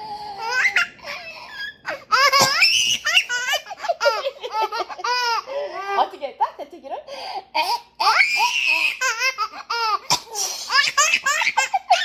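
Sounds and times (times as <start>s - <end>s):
baby laughing: 0.4s - 6.1s, 7.6s - 12.0s.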